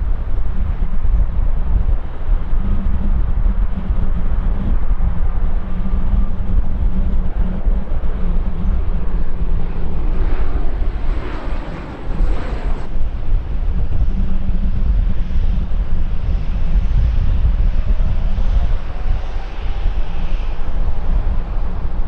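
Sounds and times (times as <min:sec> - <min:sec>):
airliner engines: 0:00.0 - 0:22.0
wind buffeting microphone: 0:00.0 - 0:22.0.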